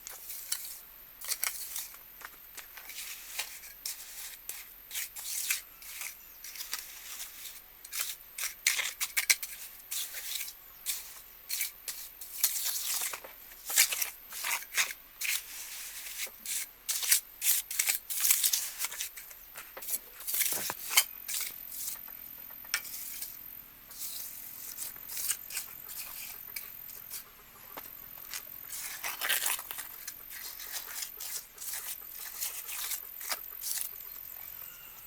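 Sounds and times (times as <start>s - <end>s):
faint high-pitched whine: 0.0s - 35.0s
scraping and rustling handling: 0.0s - 35.0s.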